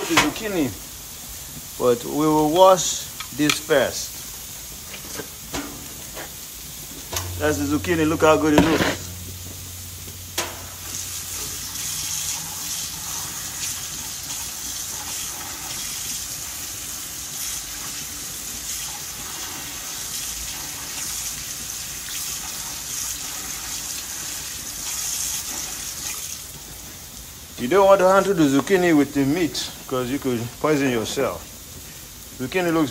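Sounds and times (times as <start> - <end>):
meat sizzling on a grill: 0.0 - 32.9.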